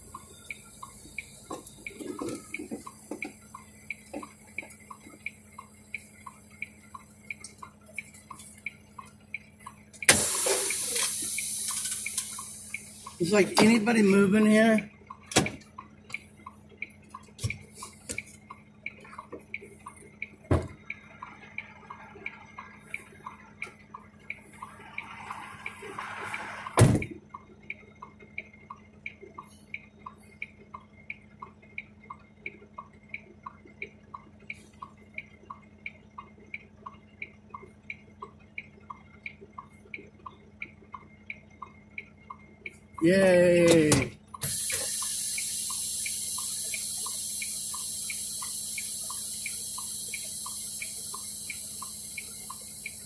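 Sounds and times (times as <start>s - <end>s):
truck engine idling: 0.0s - 53.0s
turn signal flasher ticking: 0.0s - 53.0s.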